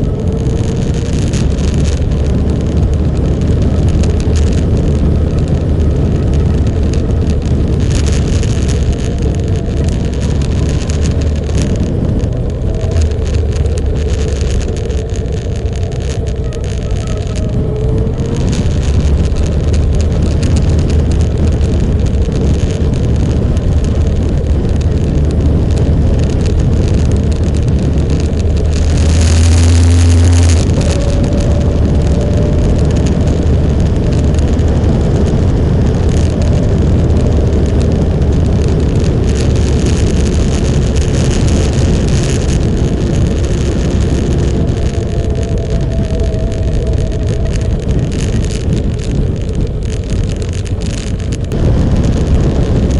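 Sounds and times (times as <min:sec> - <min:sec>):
motorcycle engine drone: 0:00.0 - 0:52.9
road and air noise: 0:00.0 - 0:52.9.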